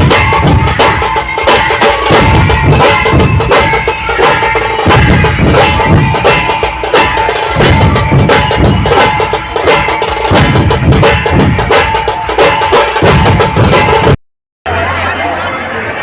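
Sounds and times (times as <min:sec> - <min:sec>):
procession music with driving drum beat: 0:00.0 - 0:14.2.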